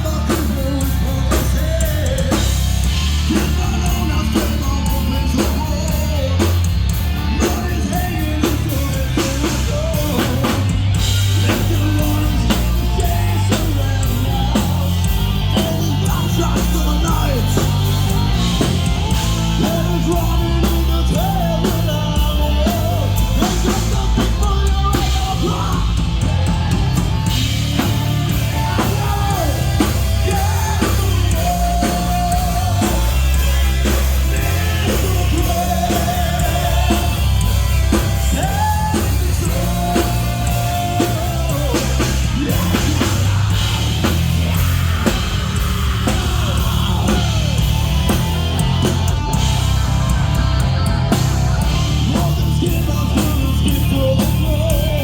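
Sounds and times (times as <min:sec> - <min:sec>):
heavy rock band playing live: 0:00.0 - 0:55.0
person singing: 0:00.0 - 0:55.0.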